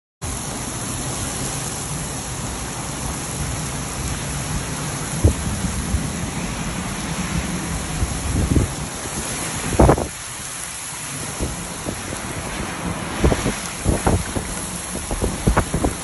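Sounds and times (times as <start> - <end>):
heavy rain downpour: 0.2 - 16.0.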